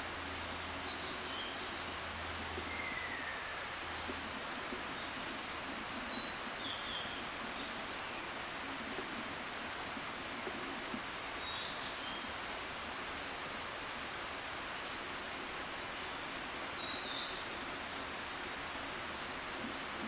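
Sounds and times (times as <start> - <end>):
outdoor background hiss: 0.0 - 20.0
distant bird calls: 0.5 - 20.0.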